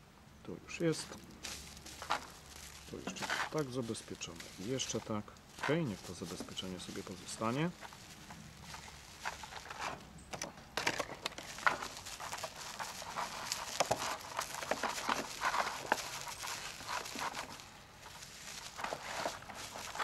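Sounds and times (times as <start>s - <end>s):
bubble wrap crinkling: 0.8s - 20.0s.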